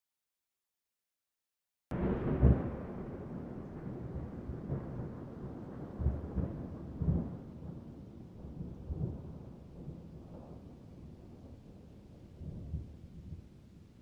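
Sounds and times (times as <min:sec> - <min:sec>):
rolling thunder: 0:01.9 - 0:13.6.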